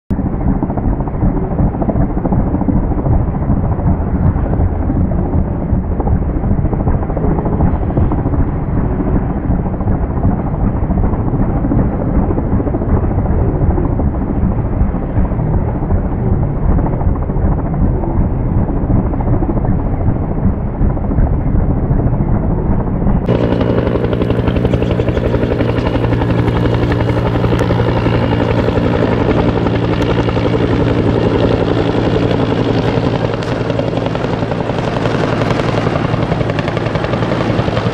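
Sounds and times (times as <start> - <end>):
helicopter rotor chopping: 0.1 - 37.9
helicopter turbine whine: 0.1 - 37.9.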